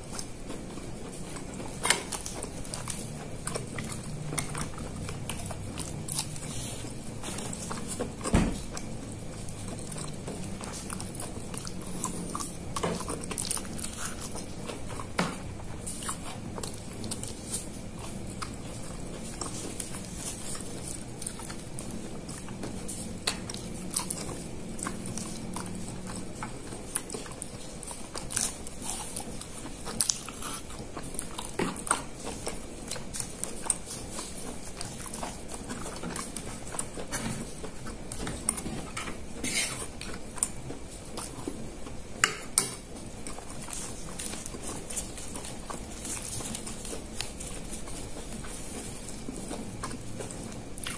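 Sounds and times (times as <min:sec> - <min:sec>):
chewing and biting food: 0:00.0 - 0:50.9.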